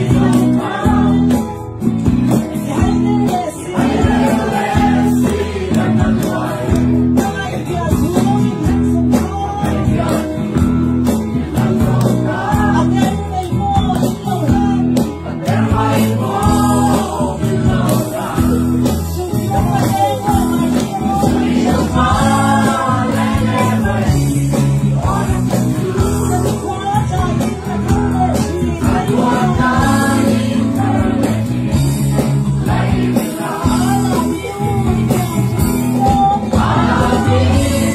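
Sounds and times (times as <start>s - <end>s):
strummed guitar chords: 0.0s - 37.9s.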